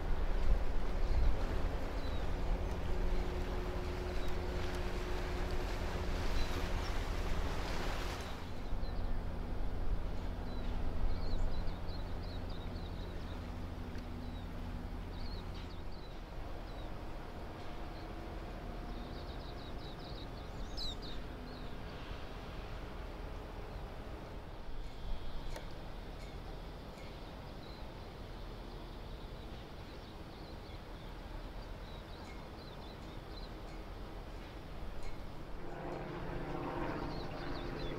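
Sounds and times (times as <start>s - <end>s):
low rumble and hiss: 0.0s - 37.9s.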